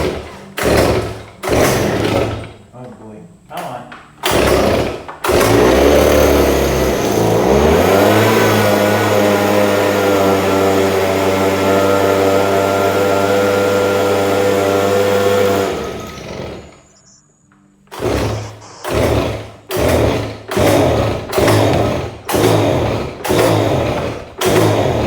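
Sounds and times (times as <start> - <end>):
leaf blower engine revving: 0.0 - 2.6, 4.2 - 17.0, 17.9 - 25.0.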